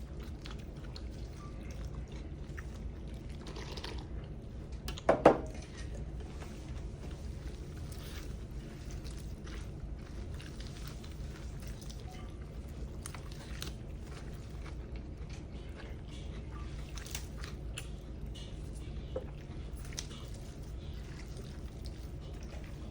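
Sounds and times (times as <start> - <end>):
chewing and mouth noises: 0.0 - 22.9.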